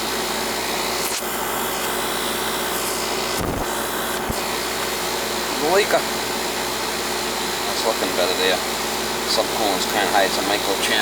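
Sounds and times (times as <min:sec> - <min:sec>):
condenser fan rushing: 0:00.0 - 0:11.0.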